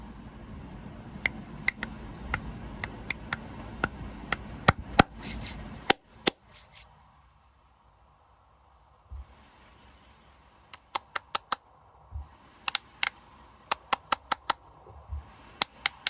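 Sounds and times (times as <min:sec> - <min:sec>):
low background noise: 0:00.0 - 0:16.0.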